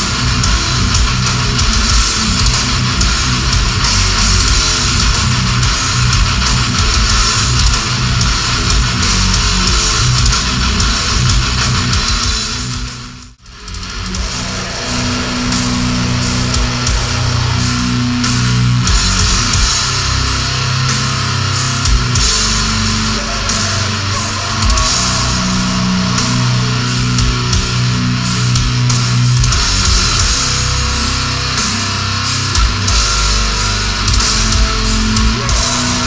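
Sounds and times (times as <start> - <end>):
bass guitar: 0.0 - 36.0
cymbals: 0.0 - 36.0
distorted electric guitars: 0.0 - 36.0
drum kit: 0.0 - 36.0.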